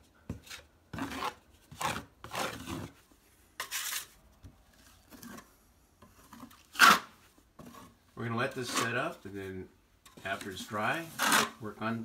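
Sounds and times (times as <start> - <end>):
drywall knife scraping compound: 0.3 - 12.0.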